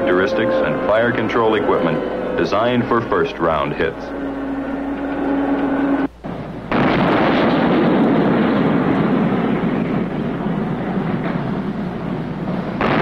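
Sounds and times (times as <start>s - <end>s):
quiet steady noise with low hum: 0.0s - 13.0s
tank engine and track noise: 0.0s - 13.0s.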